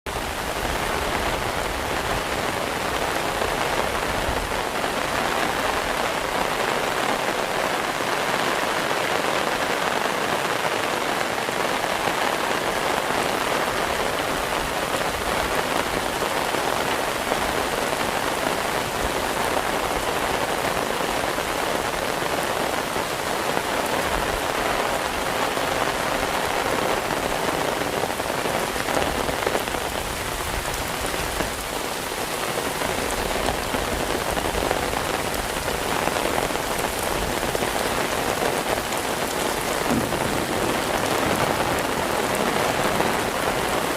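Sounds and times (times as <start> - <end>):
heavy rain falling: 0.1 - 43.9.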